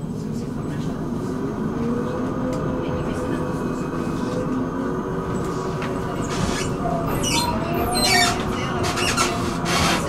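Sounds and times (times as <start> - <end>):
tram wheels rumbling on rails: 0.0 - 10.0.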